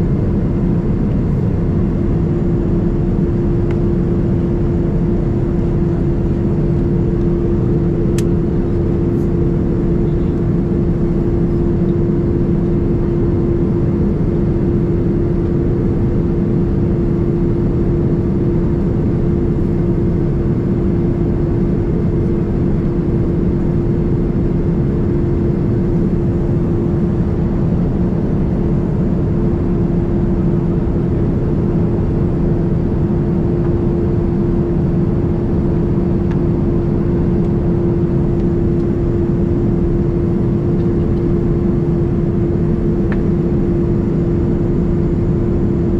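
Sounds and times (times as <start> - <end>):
airplane cabin engine rush: 0.0 - 45.9.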